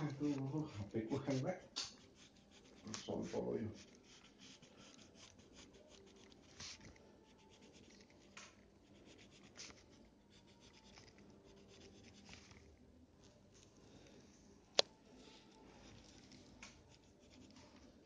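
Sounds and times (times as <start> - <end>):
pencil scratching on paper: 0.0 - 12.8, 15.3 - 18.0.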